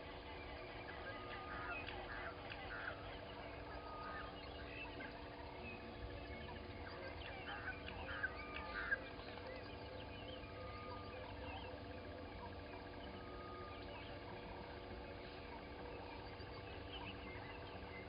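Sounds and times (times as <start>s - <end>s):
bird chorus: 0.0s - 18.0s.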